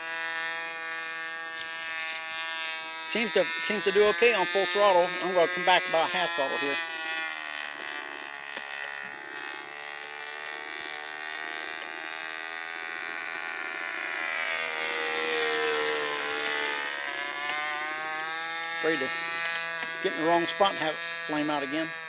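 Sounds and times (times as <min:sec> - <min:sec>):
model airplane engine droning: 0:00.0 - 0:22.0.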